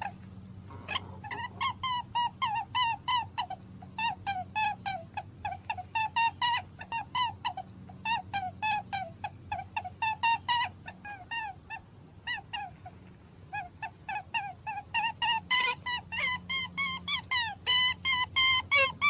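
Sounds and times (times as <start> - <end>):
small animal squeaking: 0.0 - 12.8, 13.5 - 19.0
low steady hum: 0.0 - 19.0.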